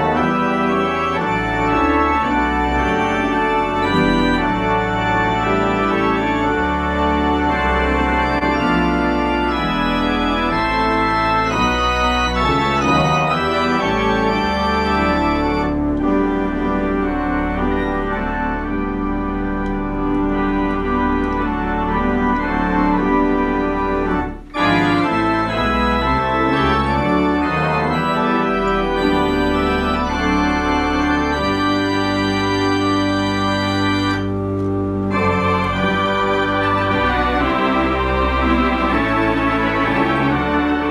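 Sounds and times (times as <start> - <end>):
cinema organ playing chords: 0.0 - 40.9.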